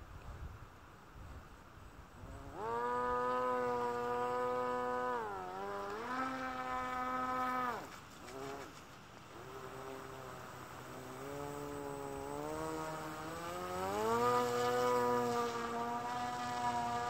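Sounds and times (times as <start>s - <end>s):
fan boat motor buzzing hum: 2.2s - 17.0s.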